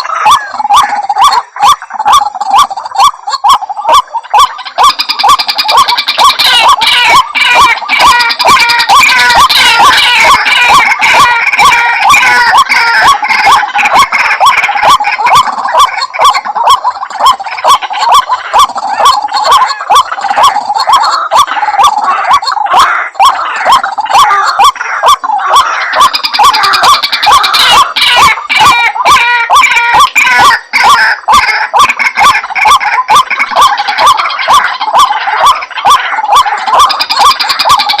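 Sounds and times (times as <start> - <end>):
waterhen croaking calls: 0.0 - 38.0.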